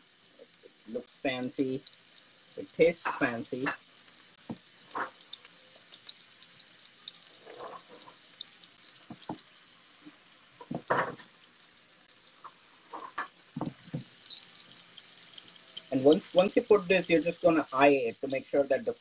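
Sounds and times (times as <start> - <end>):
fish sizzling in a frying pan: 0.0 - 19.0.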